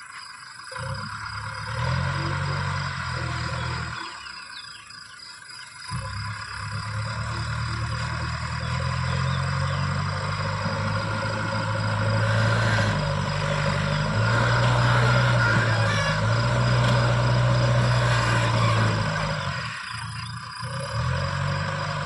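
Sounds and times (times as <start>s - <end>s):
backhoe diesel engine running: 0.0s - 22.0s.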